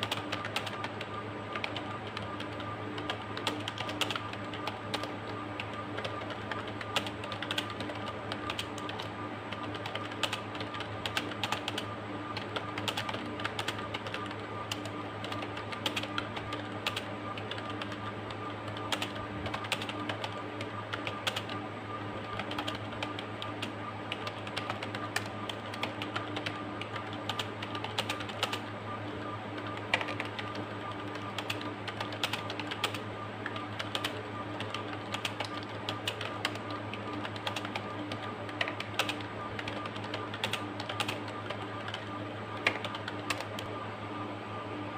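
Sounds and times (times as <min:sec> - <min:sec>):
keyboard typing clicks: 0:00.0 - 0:21.6, 0:22.2 - 0:43.7
steady low hum: 0:00.0 - 0:44.9.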